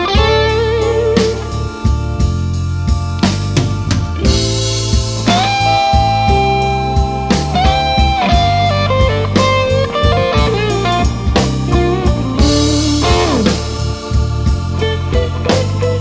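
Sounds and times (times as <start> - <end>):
bass: 0.0 - 16.0
drums: 0.0 - 16.0
electric guitar lead with bent notes: 0.0 - 16.0.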